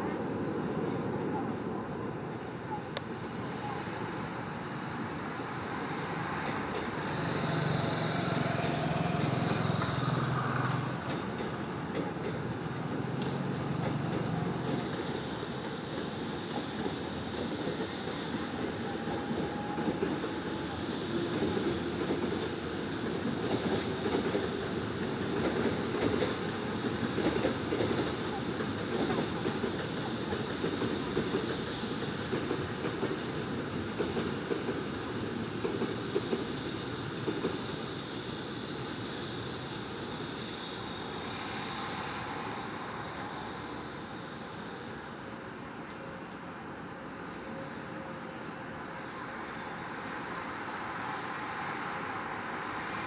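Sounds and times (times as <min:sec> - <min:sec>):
urban rumble of passing vehicles: 0:01.5 - 0:53.0.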